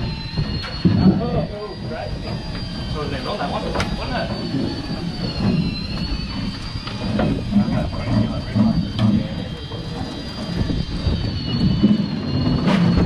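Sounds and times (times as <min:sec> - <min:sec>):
electric winch whining: 0:00.0 - 0:13.0
low machinery rumble: 0:00.0 - 0:13.0.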